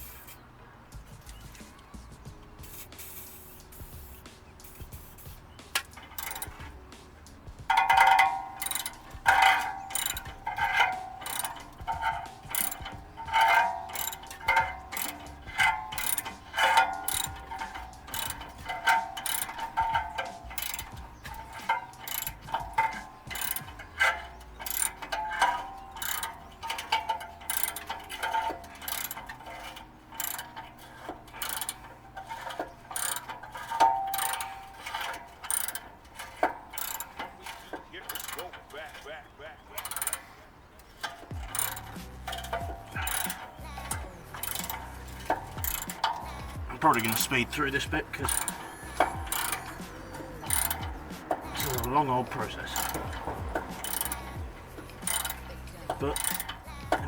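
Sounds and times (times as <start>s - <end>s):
socket ratchet clicking: 2.7s - 57.0s.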